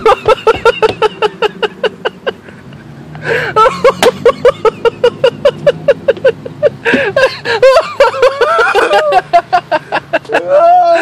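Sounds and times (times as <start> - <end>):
person laughing hard: 0.0 - 11.0.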